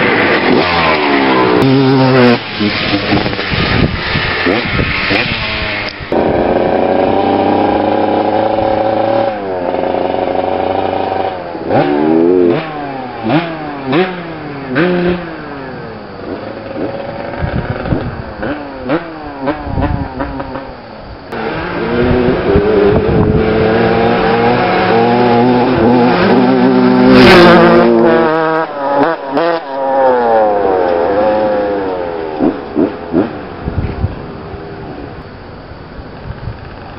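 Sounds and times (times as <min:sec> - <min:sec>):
motocross bike engines revving: 0:00.0 - 0:35.2.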